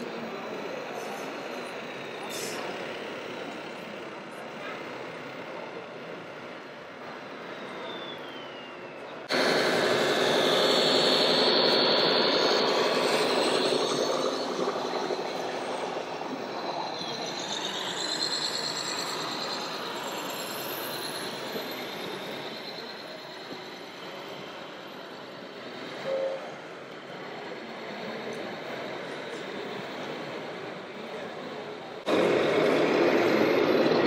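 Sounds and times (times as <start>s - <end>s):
model trucks whining: 0.0s - 34.0s.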